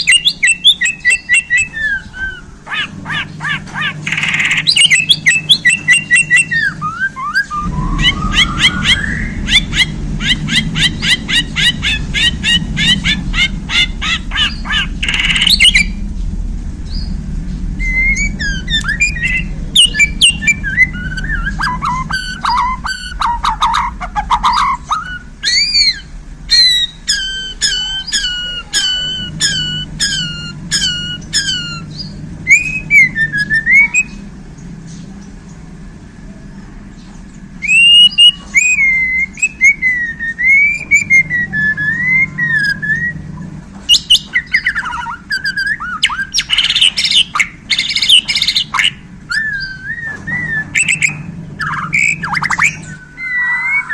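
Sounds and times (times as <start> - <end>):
bird singing loudly: 0.0 - 16.1, 16.9 - 34.3, 37.6 - 53.9.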